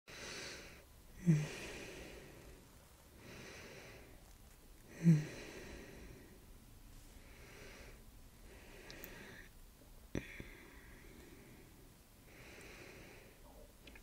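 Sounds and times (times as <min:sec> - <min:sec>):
person breathing slowly: 0:00.1 - 0:09.6, 0:10.2 - 0:13.7.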